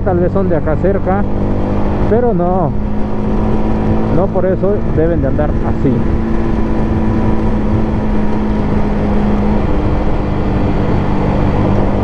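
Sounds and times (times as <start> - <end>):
heavy wind: 0.0 - 12.0
motorcycle engine running: 0.0 - 12.0
road rumble: 0.0 - 12.0.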